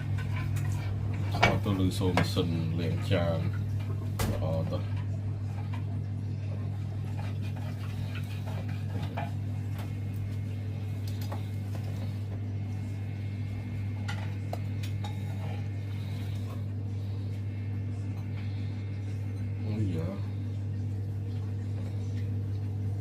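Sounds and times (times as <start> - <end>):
dishwasher humming: 0.0 - 23.0.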